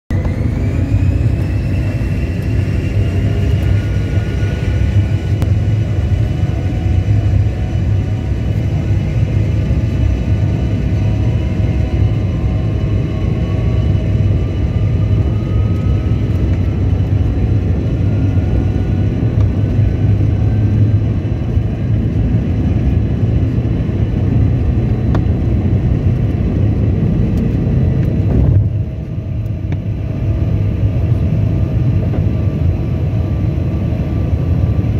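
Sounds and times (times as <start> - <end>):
aircraft cabin low rumble: 0.1 - 34.9
turbofan engine whine: 0.1 - 34.9.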